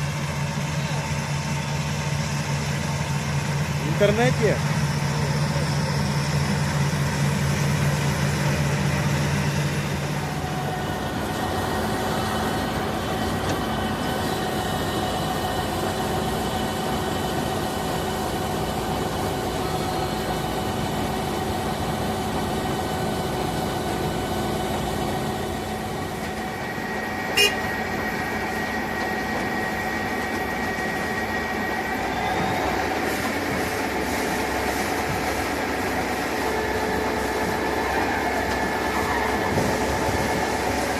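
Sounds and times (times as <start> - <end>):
combine harvester diesel engine running: 0.0 - 40.9.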